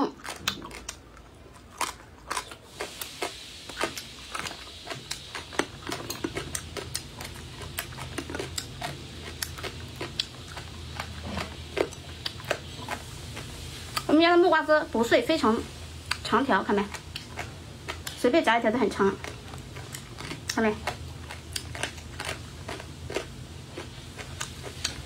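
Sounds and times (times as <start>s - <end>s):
crunchy chewing: 0.0s - 14.5s, 15.4s - 25.0s.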